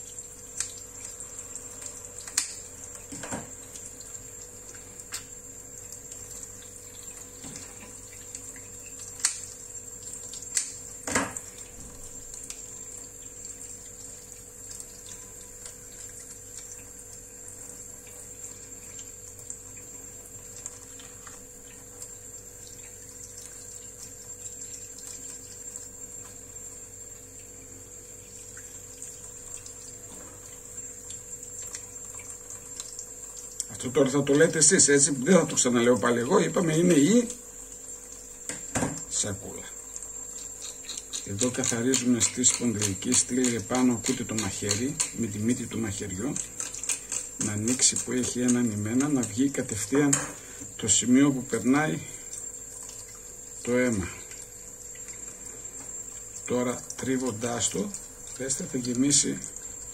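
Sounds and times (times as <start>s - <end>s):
faint water sounds: 0.0s - 59.9s.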